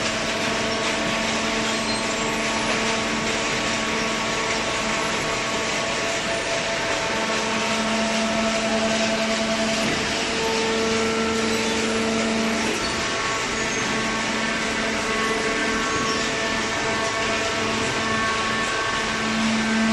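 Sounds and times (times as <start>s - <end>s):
baler machine humming: 0.0s - 19.9s.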